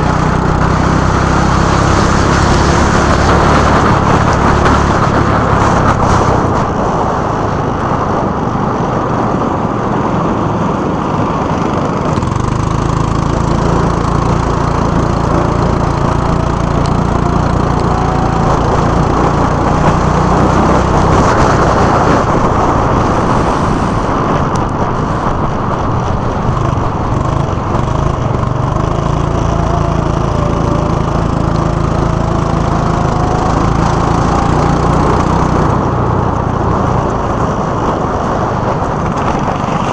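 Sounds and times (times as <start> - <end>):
go-kart engines running: 0.0 - 39.9
kart engine whines rising: 0.0 - 39.9.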